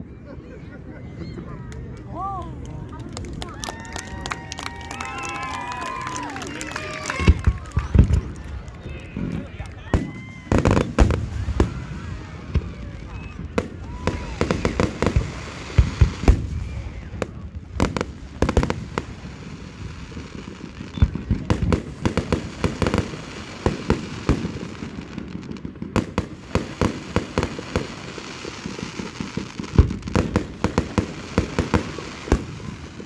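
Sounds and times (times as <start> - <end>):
fireworks bangs: 5.4 - 33.0.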